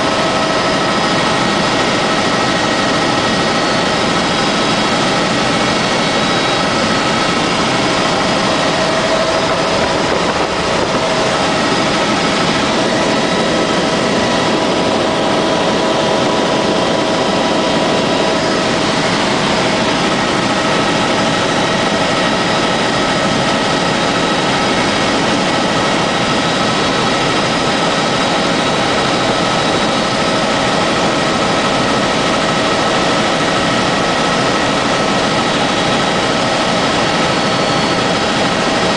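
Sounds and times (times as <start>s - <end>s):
constant whine: 0.0s - 38.9s
helicopter engine and rotor drone: 0.0s - 38.9s.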